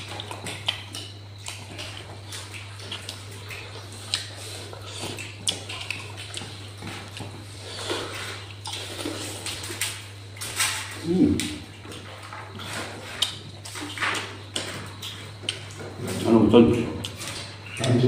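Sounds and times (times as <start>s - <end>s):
lip smacking: 0.0s - 9.9s, 11.3s - 15.9s
low electrical hum: 0.0s - 18.0s
wet chewing: 0.0s - 18.0s.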